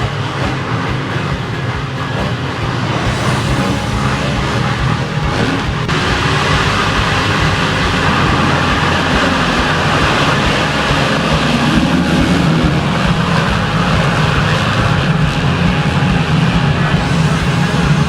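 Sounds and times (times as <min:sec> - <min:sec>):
motocross bike engines running: 0:00.0 - 0:18.0.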